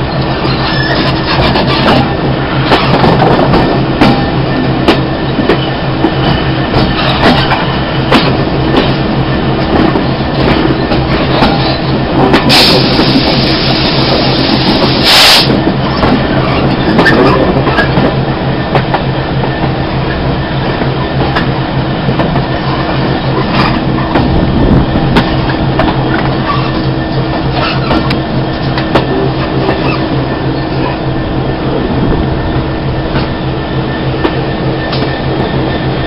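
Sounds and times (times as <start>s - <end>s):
diesel locomotive engine: 0.0s - 36.0s
rush of wind: 0.0s - 36.0s
train wheels clicking over rail joints: 0.1s - 31.0s, 32.5s - 36.0s.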